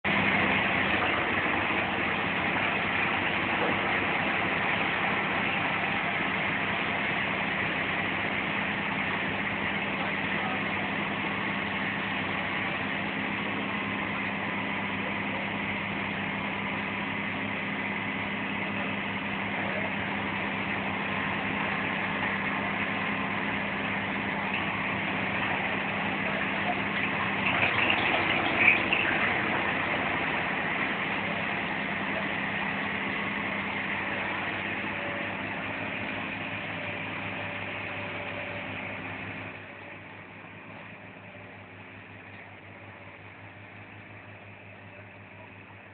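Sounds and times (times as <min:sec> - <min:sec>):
tractor diesel engine running: 0:00.0 - 0:45.9
woodchipper grinding branches: 0:00.0 - 0:45.9.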